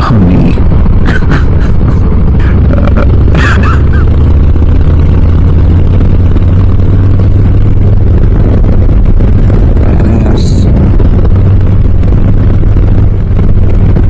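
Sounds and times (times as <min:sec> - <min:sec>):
motorcycle engine exhaust drone: 0:00.0 - 0:14.0.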